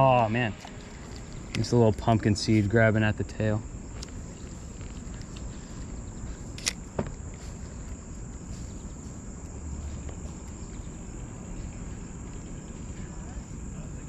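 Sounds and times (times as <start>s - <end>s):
high-pitched insect trill: 0.0s - 14.0s
low outdoor hum: 0.0s - 14.0s.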